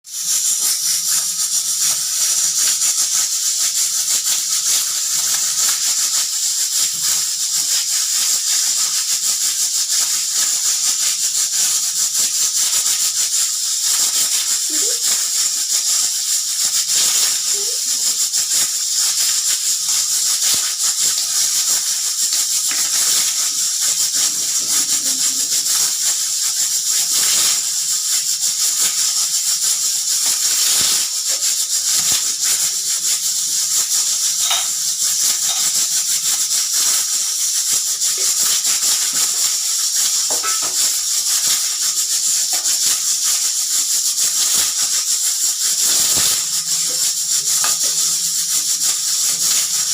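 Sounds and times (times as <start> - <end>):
pressure cooker steam hissing: 0.0 - 49.9.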